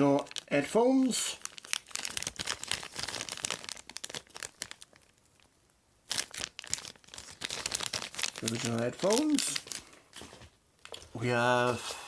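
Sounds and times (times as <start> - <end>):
packaging crinkling: 0.0 - 11.2.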